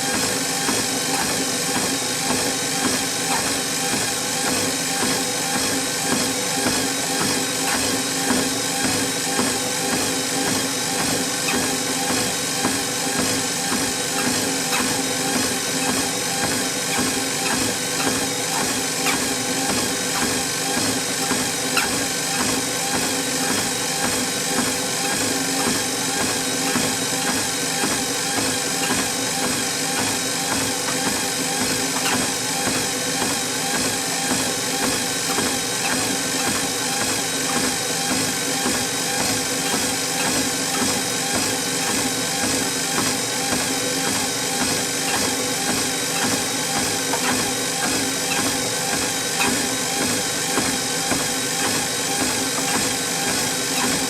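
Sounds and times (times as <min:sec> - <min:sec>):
footsteps on treadmill belt: 0:00.0 - 0:54.0
treadmill motor hum: 0:00.0 - 0:54.0.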